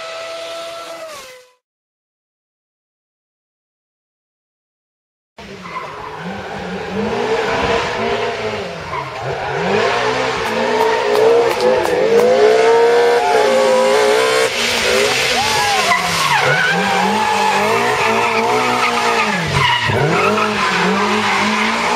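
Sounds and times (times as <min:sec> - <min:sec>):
rally car engine revving: 0:00.0 - 0:01.6, 0:05.4 - 0:21.9.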